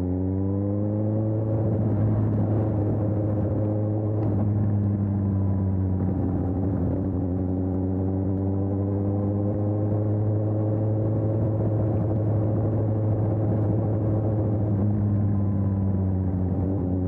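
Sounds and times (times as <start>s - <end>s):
motorcycle engine running: 1.2s - 17.0s.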